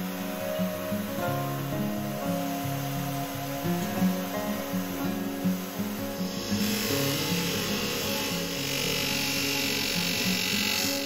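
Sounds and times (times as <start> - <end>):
background music: 0.0 - 11.0
polishing wheel hiss: 0.0 - 11.0.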